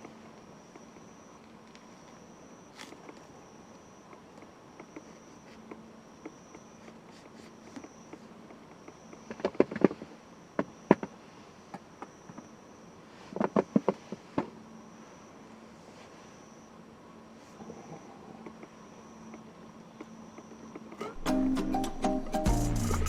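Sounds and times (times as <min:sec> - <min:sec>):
insects trilling: 0:00.0 - 0:21.2.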